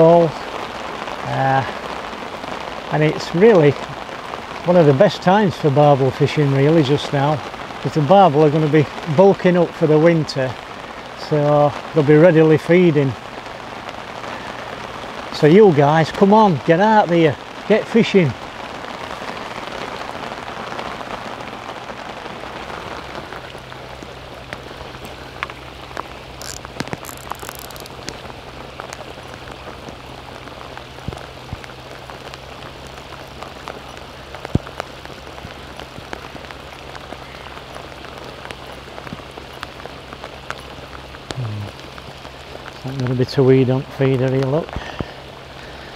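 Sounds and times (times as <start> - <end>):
heavy rain: 0.0 - 45.9
raindrops ticking close by: 0.0 - 45.9.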